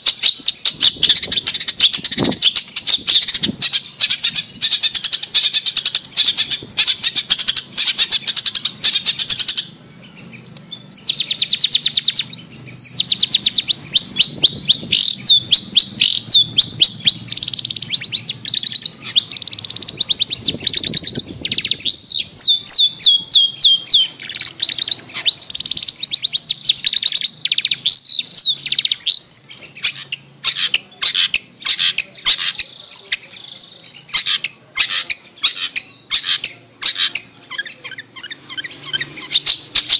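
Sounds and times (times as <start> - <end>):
bird harsh chattering song: 0.0 - 39.9.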